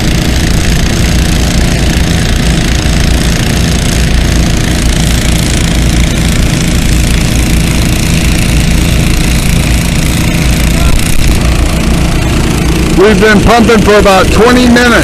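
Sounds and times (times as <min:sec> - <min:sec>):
small gasoline engine pumps running: 0:00.0 - 0:15.0.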